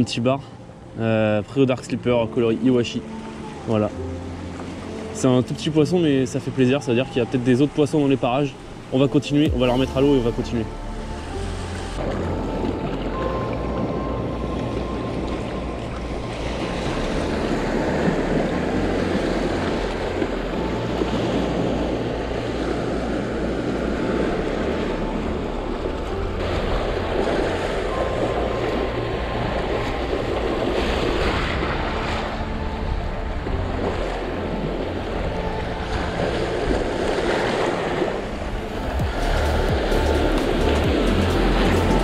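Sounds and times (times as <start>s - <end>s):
sea surf on rocky shore: 0.0s - 42.0s.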